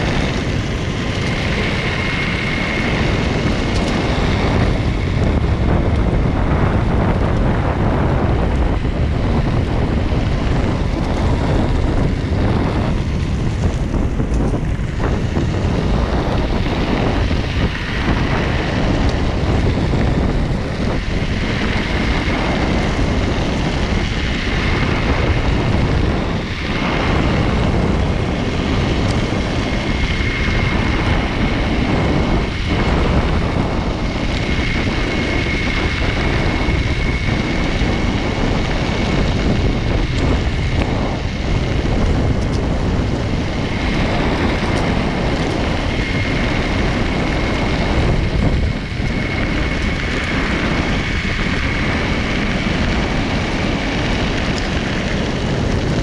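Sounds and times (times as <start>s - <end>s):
high motor whine: 0.0s - 56.0s
wind buffeting microphone: 0.0s - 56.0s.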